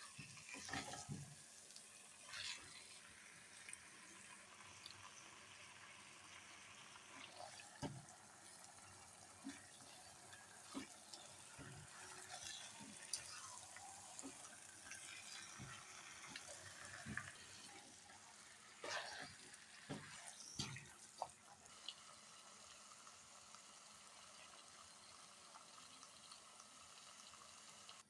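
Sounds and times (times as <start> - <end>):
faint hiss of running water: 0.0 - 28.0.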